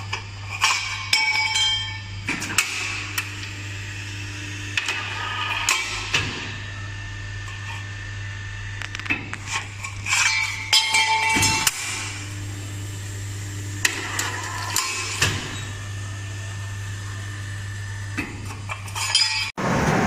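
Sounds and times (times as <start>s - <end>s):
hydraulic pump motor humming: 2.2s - 19.2s.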